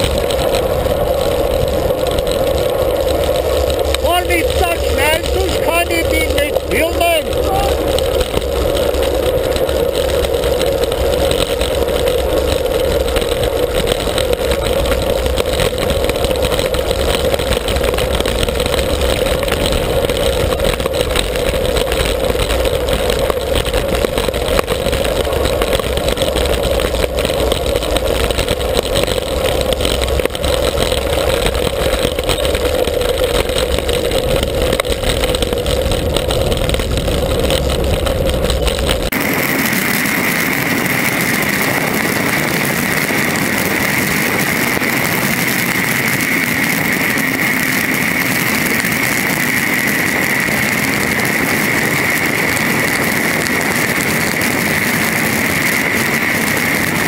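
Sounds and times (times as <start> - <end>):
tyre noise on asphalt: 0.0 - 57.0
wind rushing over microphone: 0.0 - 57.0.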